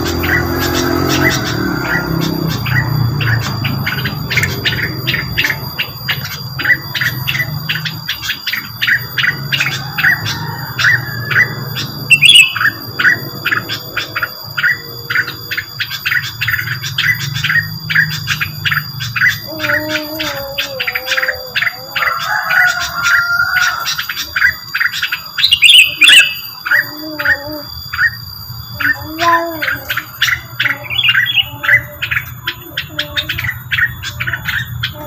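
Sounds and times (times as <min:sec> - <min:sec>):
bird call chirps: 0:00.0 - 0:35.0.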